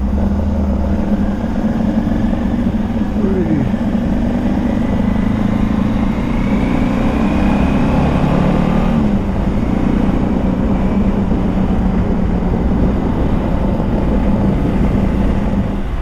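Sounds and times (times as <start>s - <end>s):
motorcycle engine running: 0.0s - 16.0s
wind noise: 0.0s - 16.0s.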